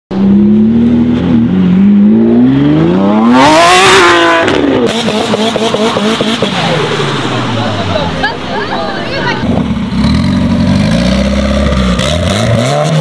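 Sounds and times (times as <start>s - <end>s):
sports car accelerating hard: 0.1s - 13.0s.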